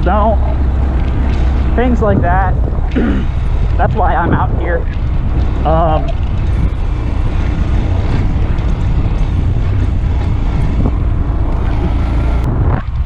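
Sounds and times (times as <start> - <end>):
motorcycle engine running: 0.0 - 13.0
wind buffeting on microphone: 0.0 - 13.0.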